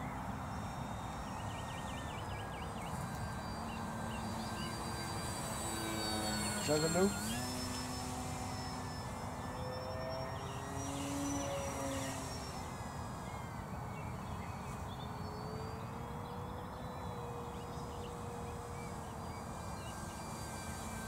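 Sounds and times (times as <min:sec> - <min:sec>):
model plane propeller whine: 0:00.0 - 0:21.0.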